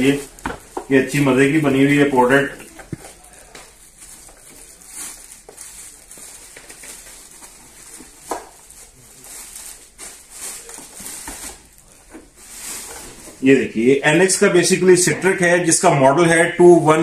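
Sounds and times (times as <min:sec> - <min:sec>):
plastic wrapping crinkling: 0:00.0 - 0:13.9.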